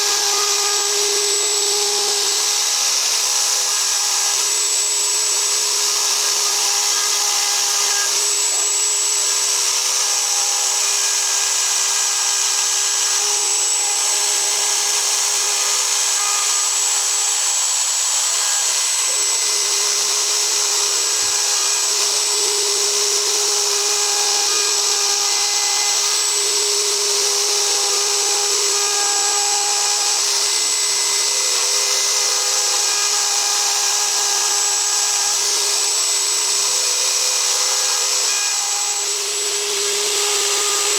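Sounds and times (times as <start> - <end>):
cutting hiss: 0.0 - 40.9
router spindle whine: 0.0 - 40.9.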